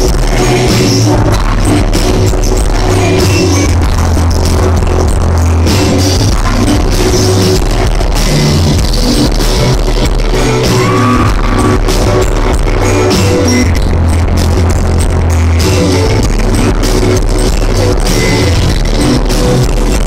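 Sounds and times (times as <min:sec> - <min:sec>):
heavy distorted bass: 0:00.0 - 0:20.0
live band playing: 0:00.0 - 0:20.0.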